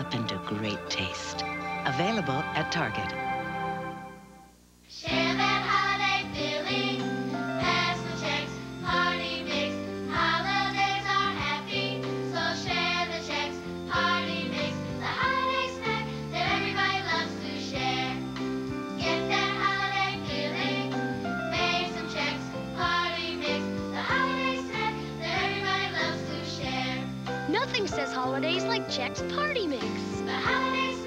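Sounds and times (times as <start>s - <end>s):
voices singing jingle: 0.0s - 4.2s, 5.0s - 31.0s
bright music: 0.0s - 31.0s.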